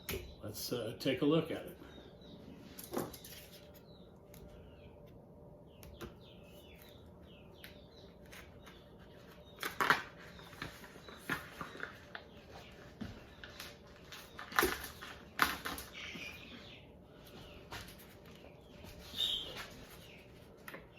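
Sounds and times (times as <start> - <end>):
small bird chirping: 1.7 - 20.9.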